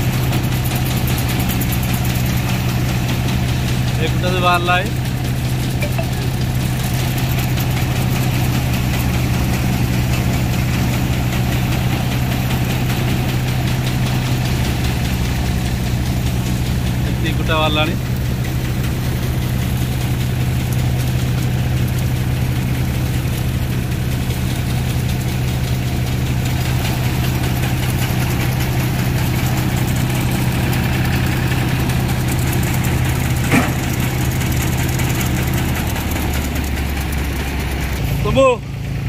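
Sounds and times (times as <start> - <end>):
thresher drum spinning: 0.0 - 39.0
tractor engine running: 0.0 - 39.0.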